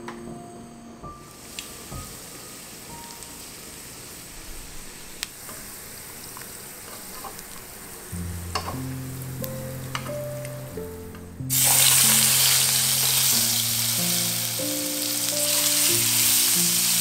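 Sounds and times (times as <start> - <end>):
food sizzling in a pan: 1.3 - 17.0.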